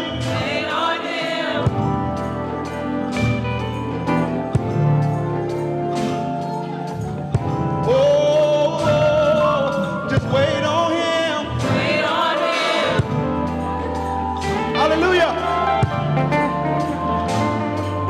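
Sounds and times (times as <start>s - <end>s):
gospel choir singing: 0.0s - 18.0s
instrumental chords: 0.0s - 18.0s.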